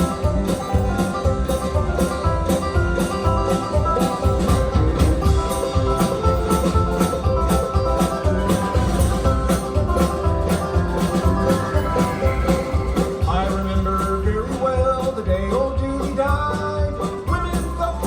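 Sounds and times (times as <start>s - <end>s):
bass line: 0.0s - 18.0s
plucked strings: 0.0s - 18.0s.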